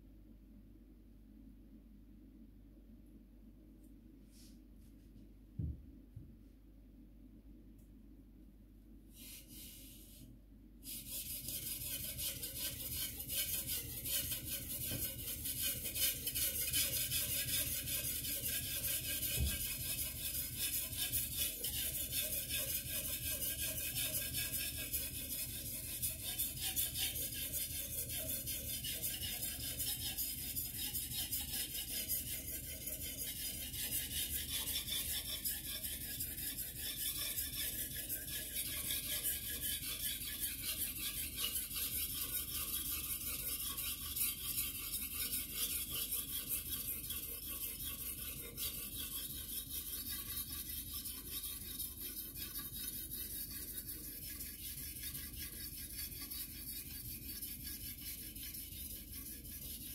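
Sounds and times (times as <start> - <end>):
knife scraping on whetstone: 10.9 - 59.9.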